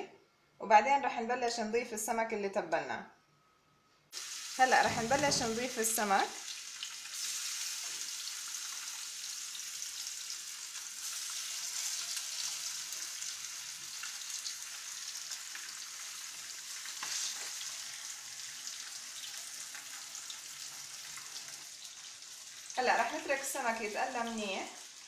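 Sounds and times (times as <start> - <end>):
fish sizzling in oil: 4.1 - 25.0.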